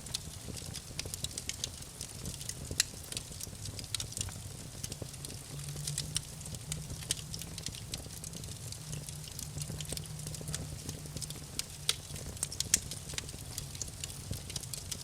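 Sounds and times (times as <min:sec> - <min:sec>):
wood fire crackling and snapping: 0:00.0 - 0:15.0.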